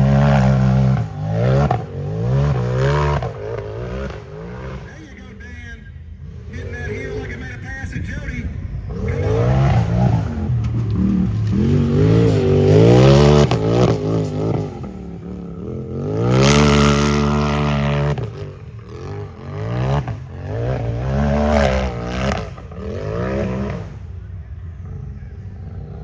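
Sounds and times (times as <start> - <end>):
race vehicle engine revving: 0.0 - 26.0.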